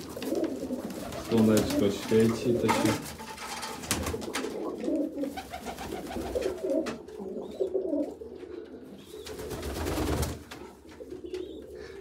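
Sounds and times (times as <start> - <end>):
pigeons cooing: 0.0 - 3.1, 3.8 - 12.0.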